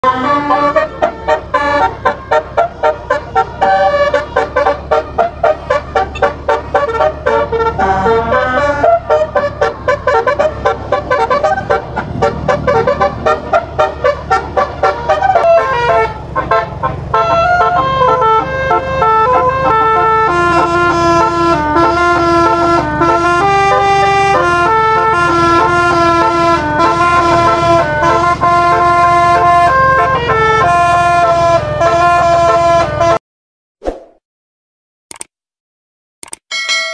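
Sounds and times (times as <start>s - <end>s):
air horns playing a melody: 0.0s - 33.2s.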